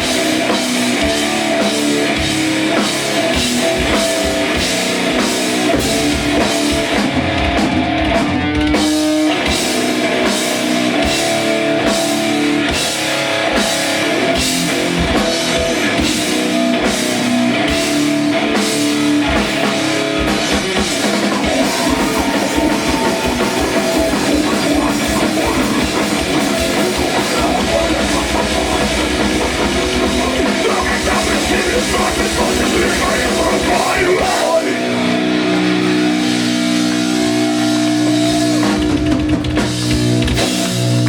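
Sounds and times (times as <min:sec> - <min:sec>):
drum kit: 0:00.0 - 0:41.0
electric guitar: 0:00.0 - 0:41.0.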